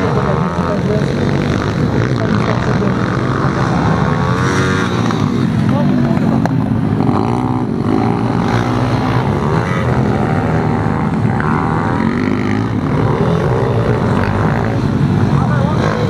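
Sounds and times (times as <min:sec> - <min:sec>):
pit bike engines racing: 0:00.0 - 0:16.0.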